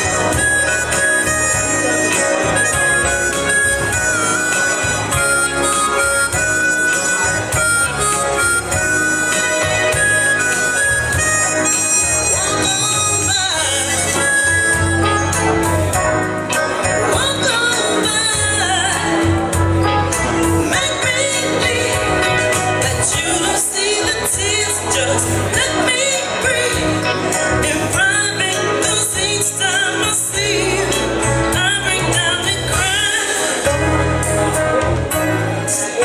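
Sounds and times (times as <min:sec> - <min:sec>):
live band music: 0:00.0 - 0:36.0.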